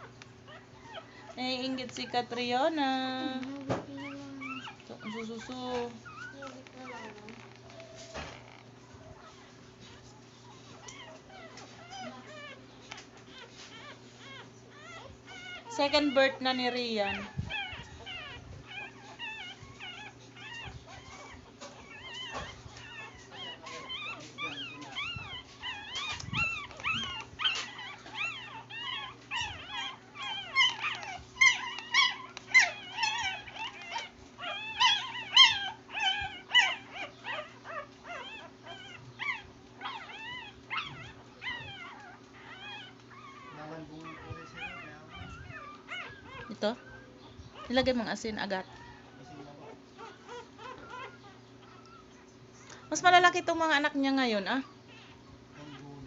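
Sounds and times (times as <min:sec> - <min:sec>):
puppies whimpering and squeaking: 0:00.0 - 0:56.0
steady low hum: 0:00.0 - 0:56.0.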